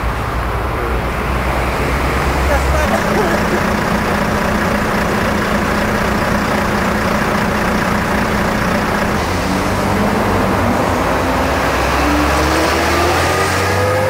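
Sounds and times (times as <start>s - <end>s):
car engines running: 0.0s - 14.0s
vehicle accelerating: 0.0s - 14.0s.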